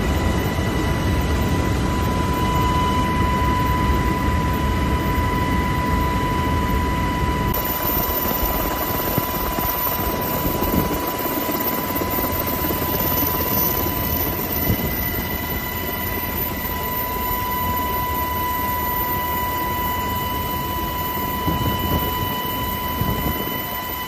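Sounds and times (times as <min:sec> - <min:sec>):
helicopter engine and rotor: 0:00.0 - 0:24.0
high whine: 0:00.0 - 0:24.0.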